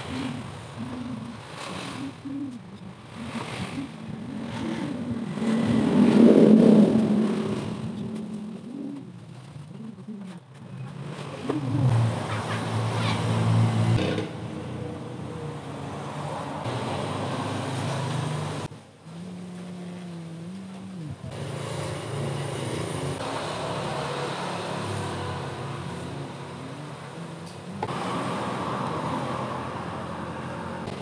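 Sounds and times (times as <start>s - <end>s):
outdoor background noise: 0.0s - 31.0s
vehicle engines humming: 0.0s - 31.0s.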